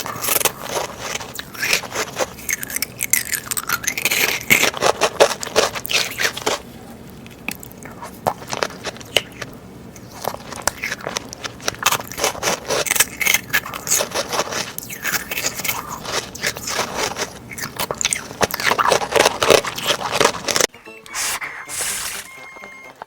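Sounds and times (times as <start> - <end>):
crunchy chewing: 0.0 - 22.4.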